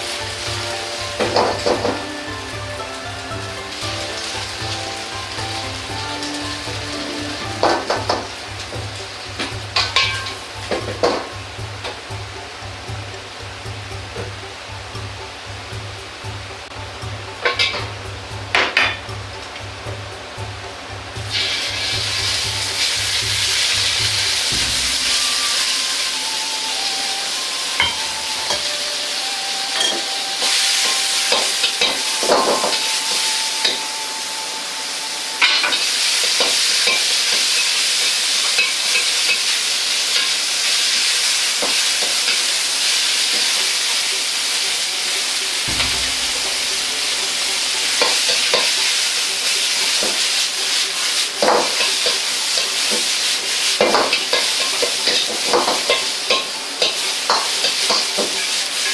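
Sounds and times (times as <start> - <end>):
food sizzling in hot oil: 0.0 - 58.9.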